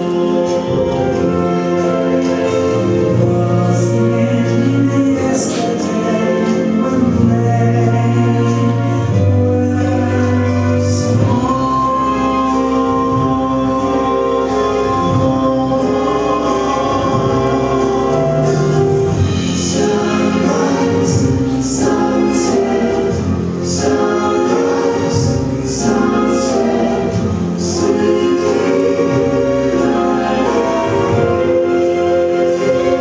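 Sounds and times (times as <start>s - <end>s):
song with instrumental accompaniment: 0.0s - 33.0s.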